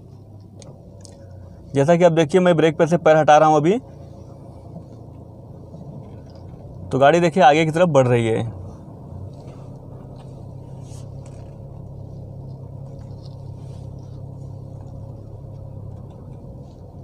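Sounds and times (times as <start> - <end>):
engine and road hum: 0.0 - 17.0.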